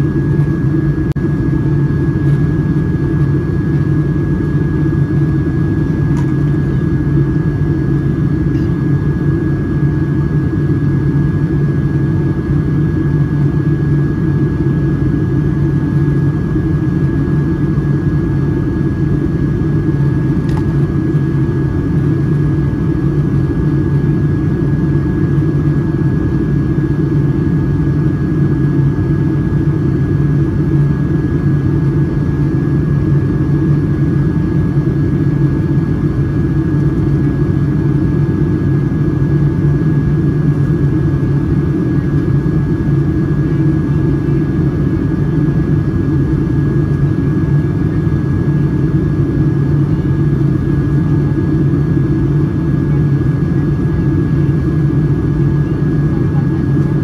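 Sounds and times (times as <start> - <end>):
aircraft cabin engine drone: 0.0 - 57.0
thin steady whine: 0.0 - 57.0.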